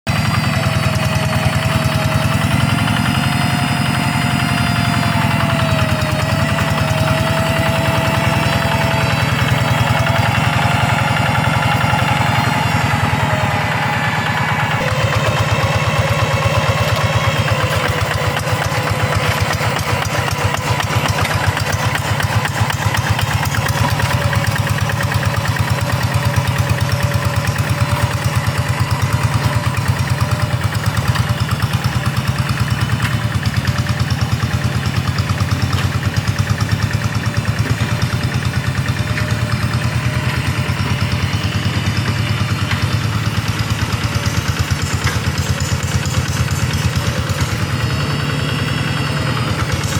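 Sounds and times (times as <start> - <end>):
diesel engine chugging: 0.1 - 49.9.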